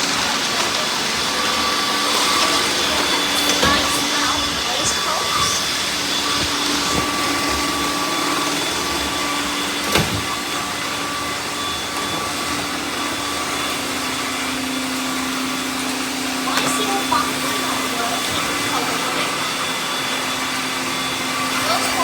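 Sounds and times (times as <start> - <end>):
robot vacuums whirring: 0.0 - 22.0.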